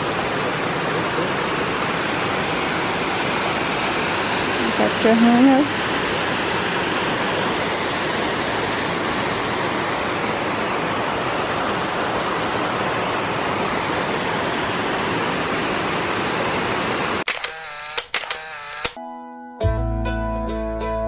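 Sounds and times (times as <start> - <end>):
waterfall rushing into pool: 0.0 - 17.3.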